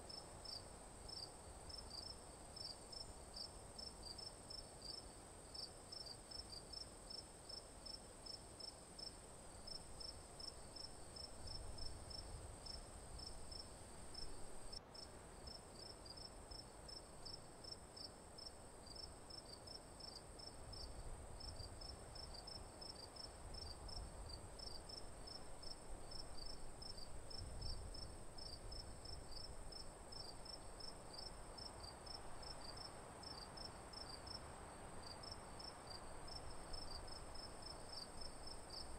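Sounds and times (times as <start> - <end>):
crickets chirping: 0.1 - 38.9.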